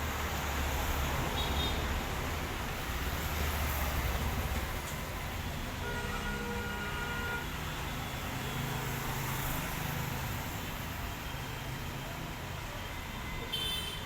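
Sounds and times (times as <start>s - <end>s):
road traffic rumble: 0.0s - 5.9s, 6.6s - 14.0s.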